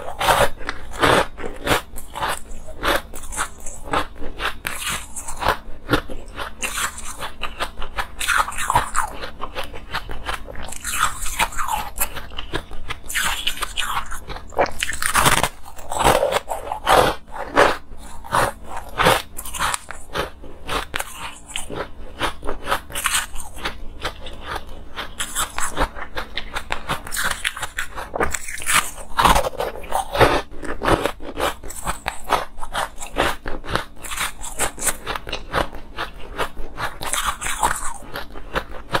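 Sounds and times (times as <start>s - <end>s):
person chewing crunchy ice: 0.0s - 39.0s.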